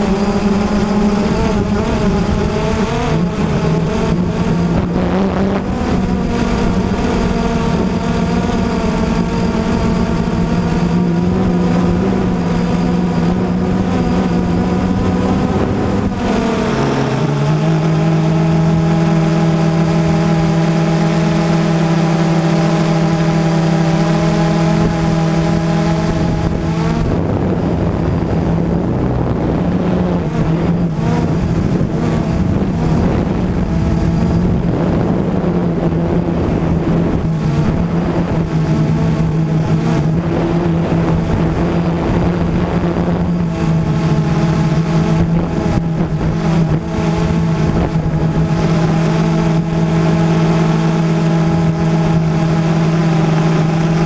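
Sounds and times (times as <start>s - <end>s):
quadcopter motors whirring: 0.0s - 54.0s.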